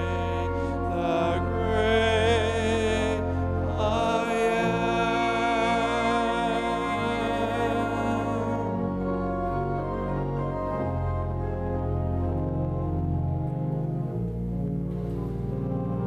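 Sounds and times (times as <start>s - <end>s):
slow music with long held notes: 0.0s - 16.0s.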